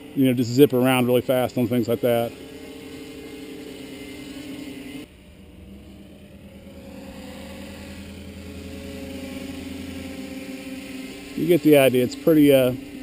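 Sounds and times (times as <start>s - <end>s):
drone motors buzzing: 0.0s - 13.0s.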